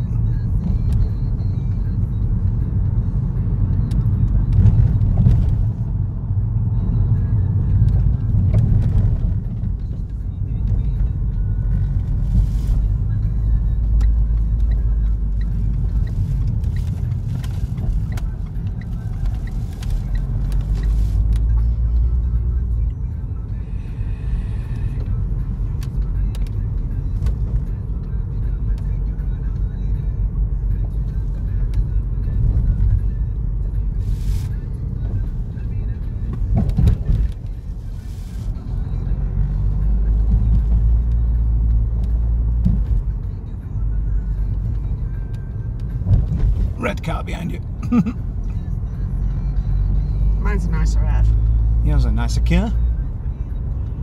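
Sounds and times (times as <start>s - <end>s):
car rumbling on the move: 0.0s - 54.0s.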